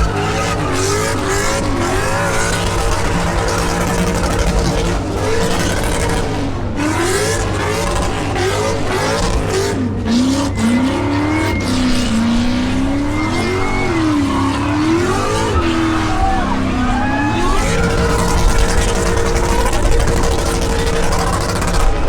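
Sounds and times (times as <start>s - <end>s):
car engine revving: 0.0s - 22.0s
spinning tyres hissing: 0.0s - 22.0s.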